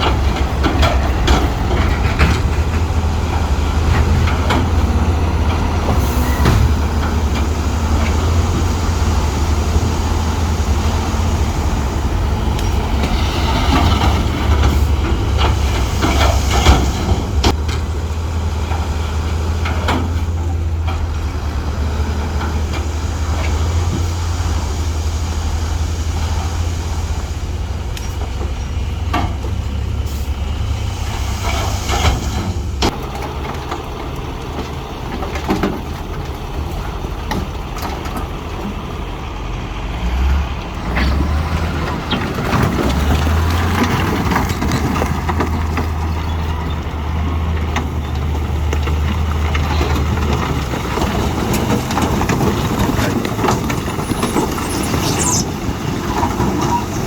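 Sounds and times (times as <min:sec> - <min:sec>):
metallic clanks of tracks: 0:00.0 - 0:39.7, 0:40.3 - 0:57.0
diesel engine rumble: 0:00.0 - 0:57.0.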